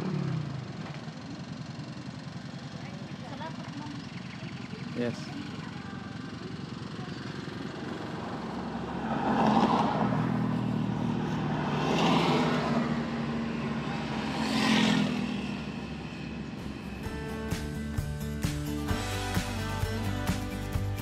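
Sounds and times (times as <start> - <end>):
vehicle and road noise: 0.0 - 21.0.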